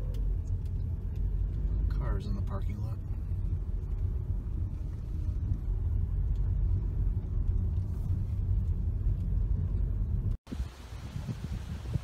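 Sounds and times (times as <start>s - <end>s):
car rumble from inside cabin: 0.0s - 10.6s.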